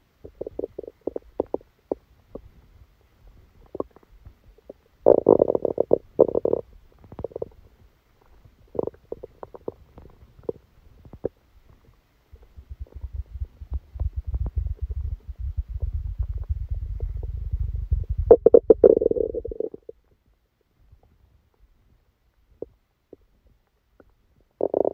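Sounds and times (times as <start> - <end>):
deep low stomach rumble: 0.0 - 24.9
stomach gurgling: 0.2 - 2.7, 3.4 - 20.3, 22.5 - 24.9.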